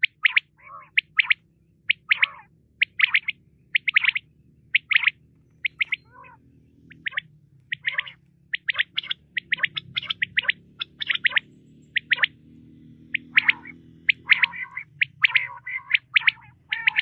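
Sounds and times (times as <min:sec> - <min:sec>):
quail calling: 0:00.0 - 0:17.0.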